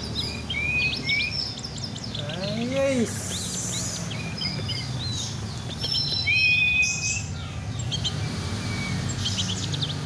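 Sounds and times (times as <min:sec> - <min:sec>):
bird singing whistles and chirps: 0:00.0 - 0:10.0.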